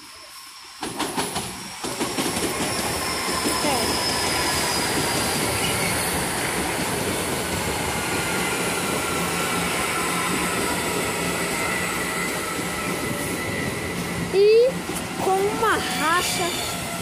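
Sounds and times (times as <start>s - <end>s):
train wheels rumbling on rail: 0.2s - 17.0s.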